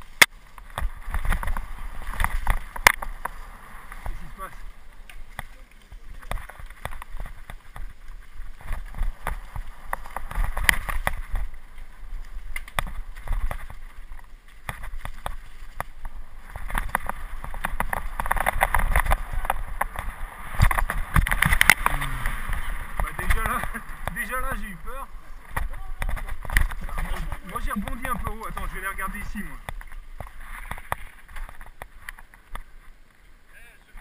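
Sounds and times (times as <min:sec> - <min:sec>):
bike knocking and rattling: 0:00.0 - 0:33.0
bike tyres rumbling on trail: 0:00.0 - 0:34.0.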